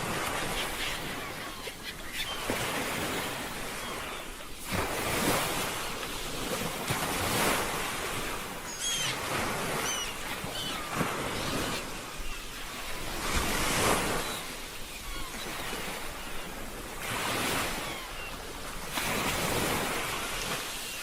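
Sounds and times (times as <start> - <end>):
ocean waves breaking: 0.0 - 21.0
wind: 0.0 - 21.0.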